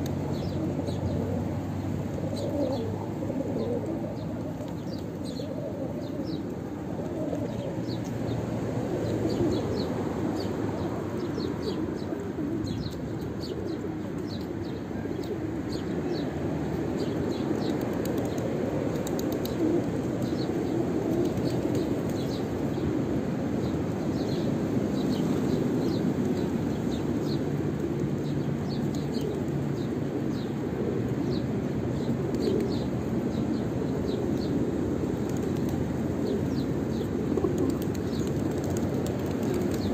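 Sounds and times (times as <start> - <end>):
pigeons cooing: 0.1 - 24.4, 25.0 - 39.9.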